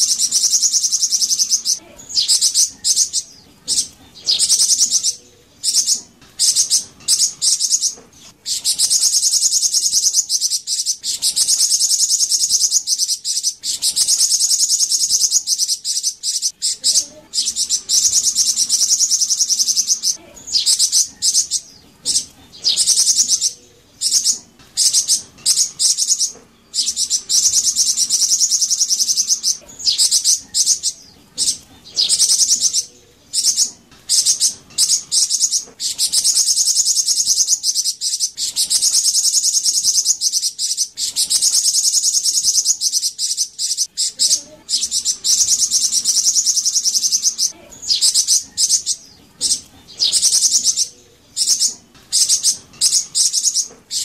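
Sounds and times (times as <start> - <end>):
bird chirps: 0.0 - 54.0
songbird buzzy trills: 0.0 - 54.0.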